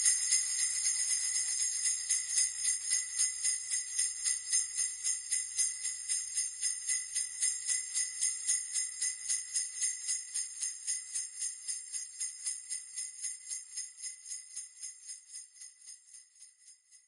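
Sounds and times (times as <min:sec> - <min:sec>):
sleigh bells jingling: 0:00.0 - 0:17.0.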